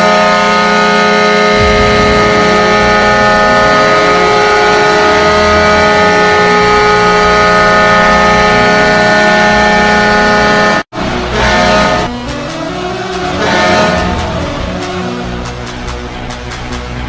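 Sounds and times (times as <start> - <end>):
arena goal horn blast: 0.0 - 12.2, 13.1 - 14.9.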